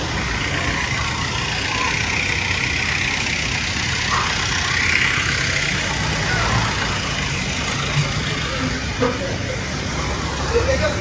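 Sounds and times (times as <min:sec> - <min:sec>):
street traffic driving past: 0:00.0 - 0:11.0.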